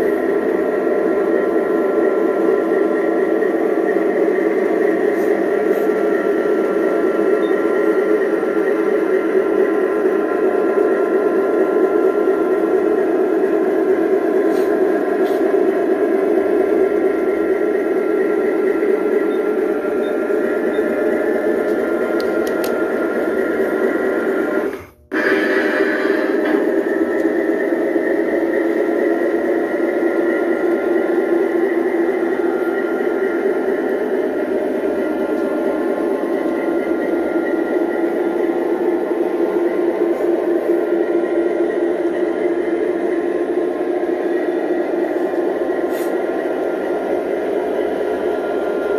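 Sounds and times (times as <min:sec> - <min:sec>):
model train motors whining: 0:00.0 - 0:48.9.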